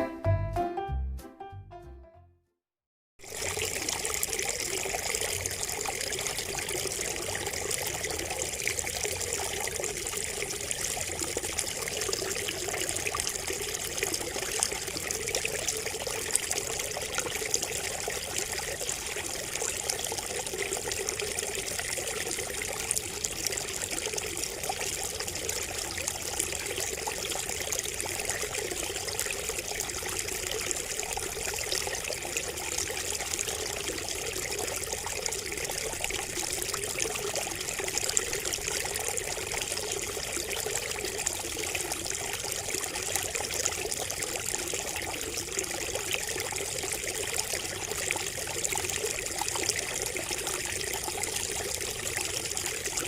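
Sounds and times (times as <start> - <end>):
water trickling from a spout: 3.2 - 53.0.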